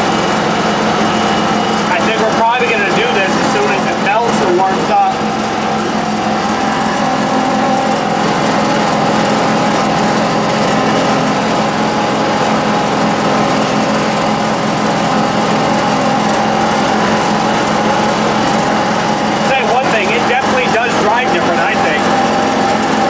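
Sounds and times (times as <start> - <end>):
garden tractor engine running: 0.0 - 23.0
steady whine: 0.0 - 23.0.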